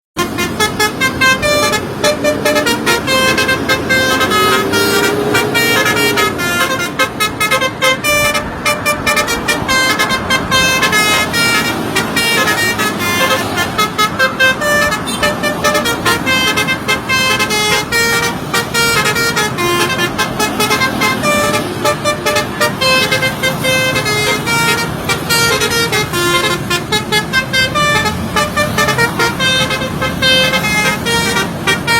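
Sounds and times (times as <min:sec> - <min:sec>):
musical bus horn tune: 0:00.2 - 0:31.9.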